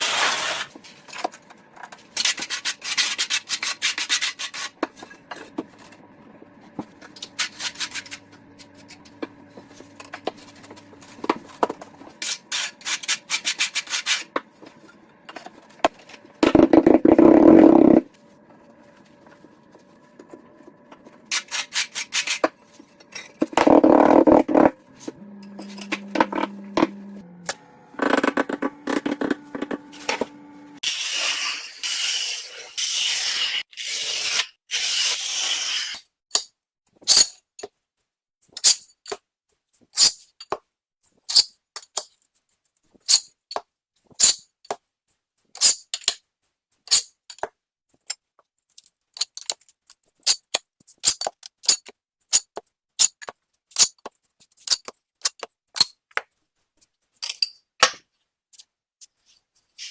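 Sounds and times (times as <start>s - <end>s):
scraping and rubbing tiles: 0.0s - 36.1s, 47.9s - 59.9s.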